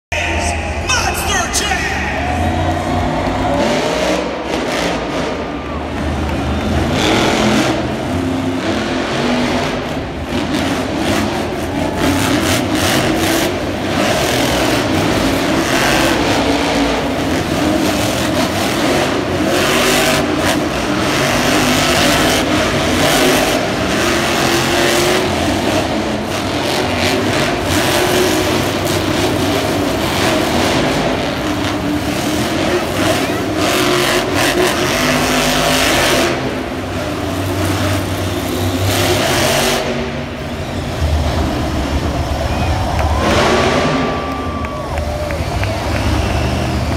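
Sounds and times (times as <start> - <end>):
monster truck engines revving: 0.0 - 46.9.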